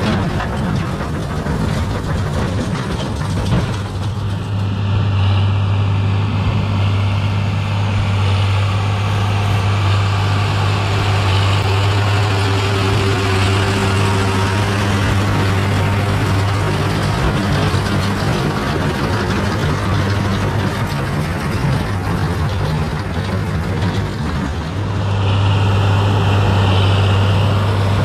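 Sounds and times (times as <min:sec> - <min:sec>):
baler machinery running: 0:00.0 - 0:28.0
tractor diesel engine under load: 0:00.0 - 0:28.0.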